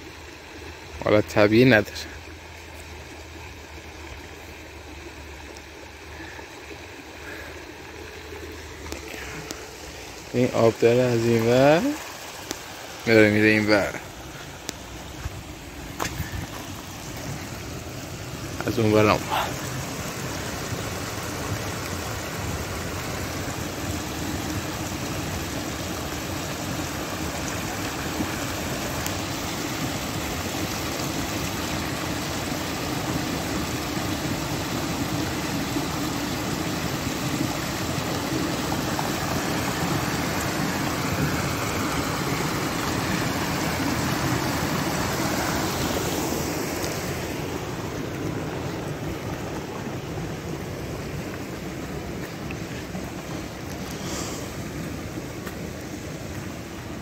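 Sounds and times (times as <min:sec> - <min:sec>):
flood water rushing over gravel: 0:00.0 - 0:57.0.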